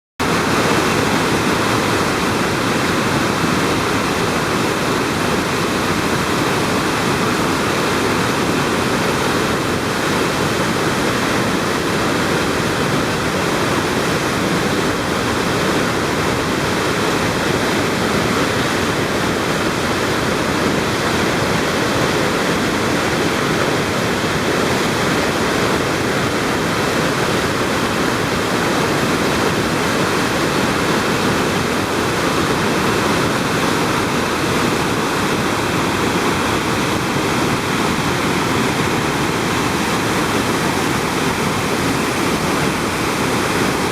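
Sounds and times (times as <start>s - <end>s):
waterfall pouring: 0.2s - 43.9s.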